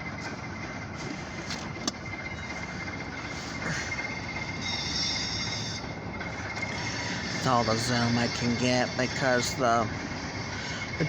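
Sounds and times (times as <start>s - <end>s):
freight train rolling: 0.0s - 11.0s.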